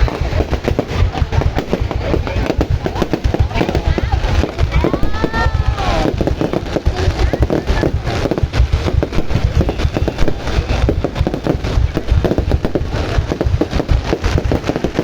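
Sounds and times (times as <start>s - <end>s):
fireworks barrage of bangs: 0.0s - 15.0s.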